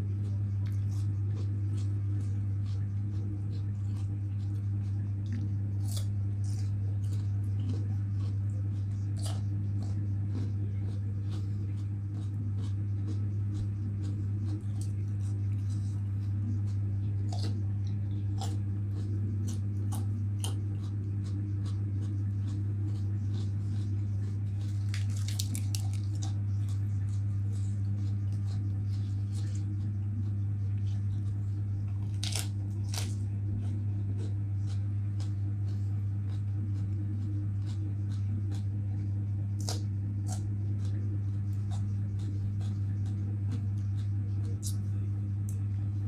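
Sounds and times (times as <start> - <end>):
crunching raw vegetables: 0.0 - 46.0
low electrical hum: 0.0 - 46.0.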